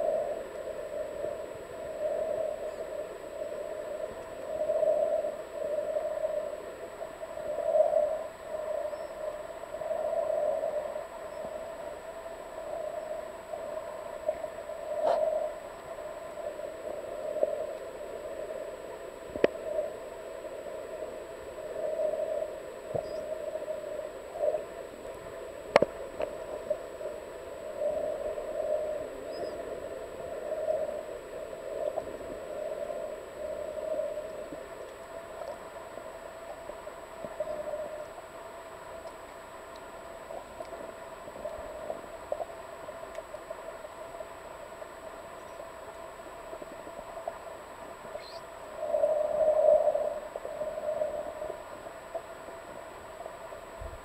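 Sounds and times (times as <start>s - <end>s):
dull underwater noise: 0.0s - 54.0s.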